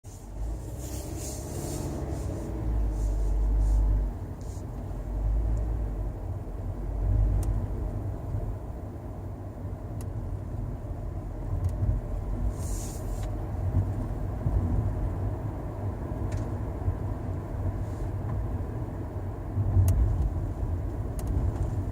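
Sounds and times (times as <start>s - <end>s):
car road and engine rumble: 0.0s - 21.9s.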